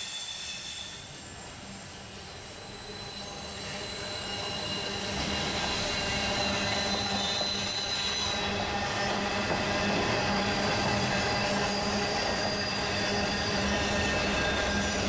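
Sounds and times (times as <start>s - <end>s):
high-pitched wheel squeal: 0.0s - 15.0s
train rumble: 0.9s - 15.0s.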